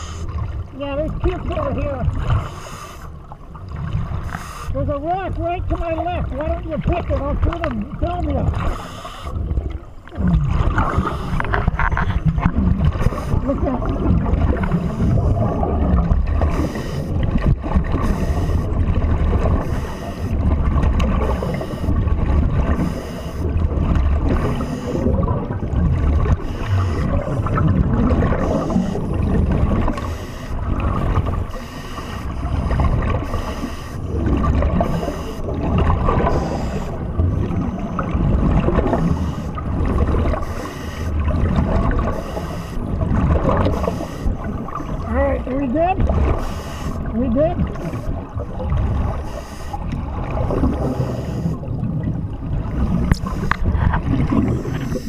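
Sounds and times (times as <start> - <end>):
underwater regulator bubbles: 0.0 - 55.0.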